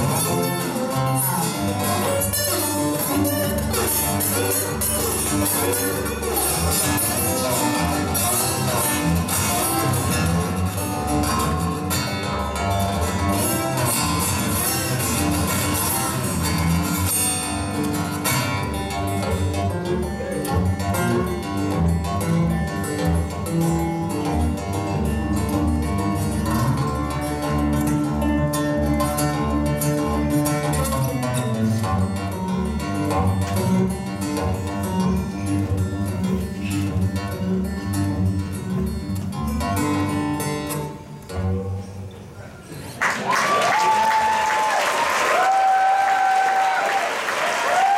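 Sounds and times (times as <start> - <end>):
fingerpicked acoustic guitar: 0.0 - 43.0.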